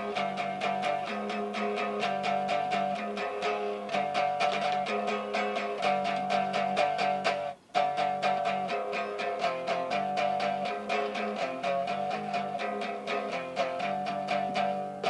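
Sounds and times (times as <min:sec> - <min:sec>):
fast guitar strumming: 0:00.0 - 0:15.0.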